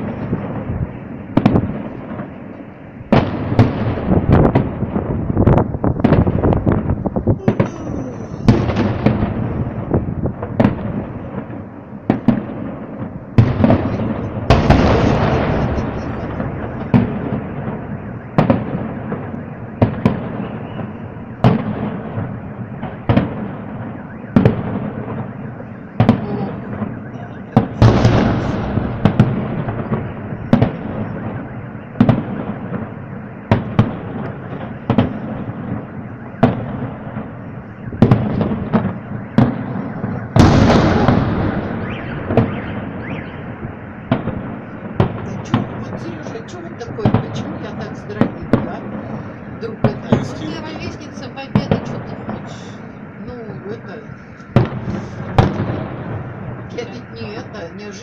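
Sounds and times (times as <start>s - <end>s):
crackling firework bursts: 0.0s - 53.2s, 54.0s - 57.5s.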